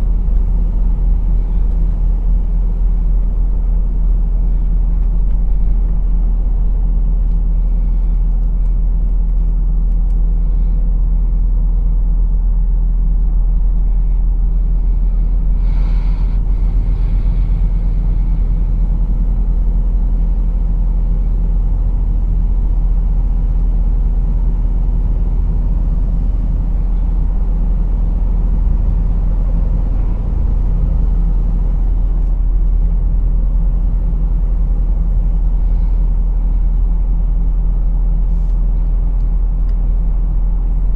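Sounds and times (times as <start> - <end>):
truck engine rumble: 0.0 - 40.9.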